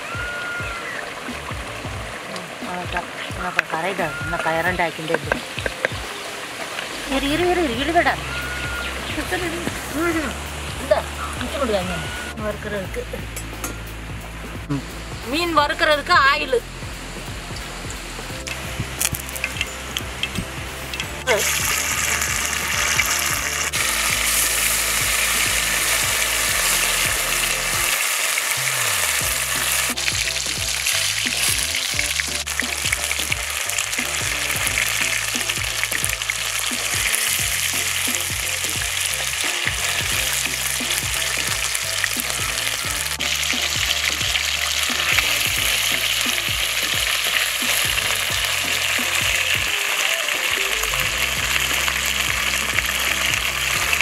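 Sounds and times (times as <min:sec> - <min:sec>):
fish deep-frying in oil: 0:00.0 - 0:54.0.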